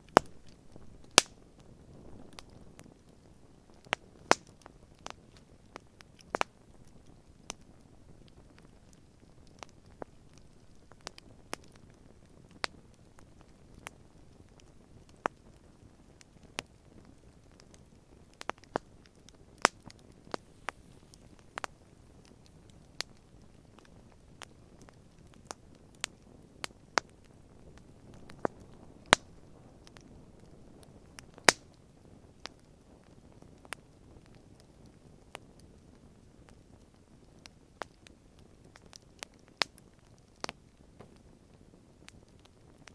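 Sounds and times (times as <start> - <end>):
faint low background noise: 0.0 - 42.9
campfire crackling and popping: 0.1 - 42.9.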